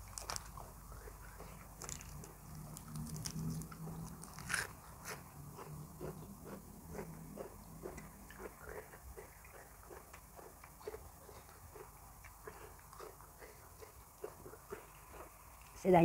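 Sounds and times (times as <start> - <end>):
person chewing crunchy food: 0.0 - 15.8.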